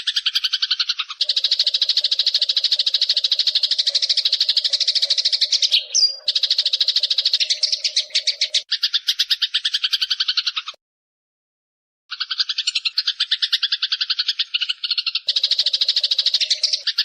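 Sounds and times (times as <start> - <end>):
sparrow chattering call: 0.0 - 10.8, 12.1 - 17.0.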